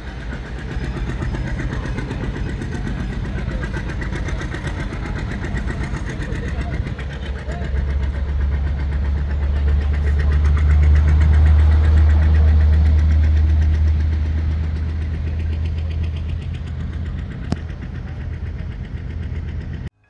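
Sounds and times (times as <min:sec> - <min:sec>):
large engine throbbing: 0:00.0 - 0:20.0.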